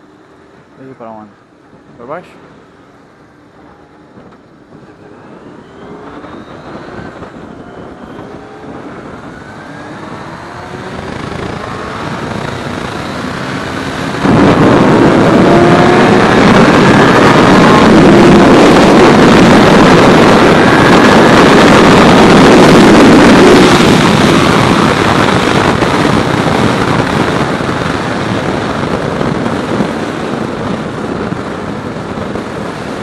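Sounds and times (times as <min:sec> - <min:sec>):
wind noise: 0:01.4 - 0:33.0
motorcycle engine accelerating: 0:01.5 - 0:33.0.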